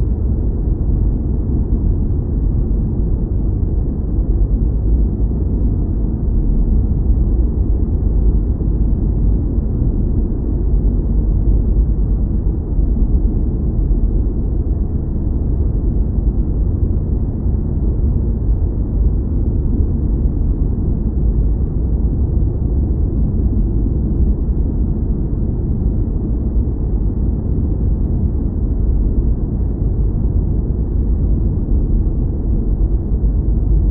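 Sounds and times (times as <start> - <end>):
deep spaceship cockpit hum: 0.0 - 33.9.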